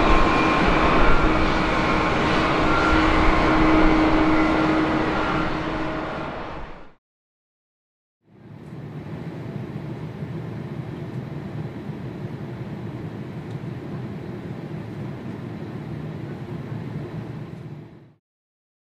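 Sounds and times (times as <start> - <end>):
airliner cabin jet engine drone: 0.0 - 7.0, 8.3 - 18.2.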